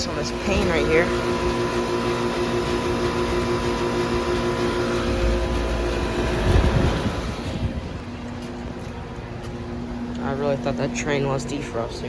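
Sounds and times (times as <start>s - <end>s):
compressor hum: 0.0s - 12.0s
condenser fans: 0.0s - 12.0s.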